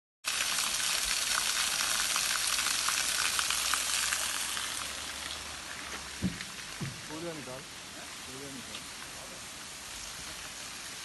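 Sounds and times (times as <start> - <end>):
water splashing onto stones: 0.2 - 11.0.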